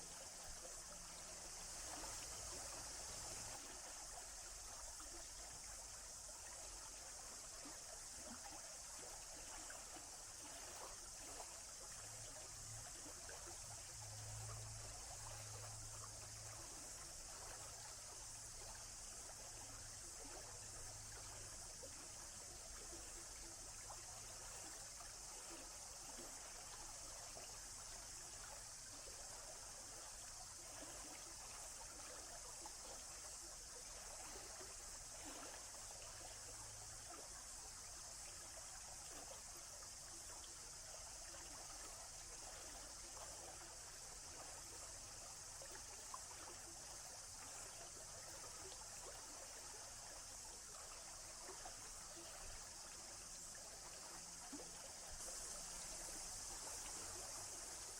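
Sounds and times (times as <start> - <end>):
stream water trickling: 0.0 - 57.9.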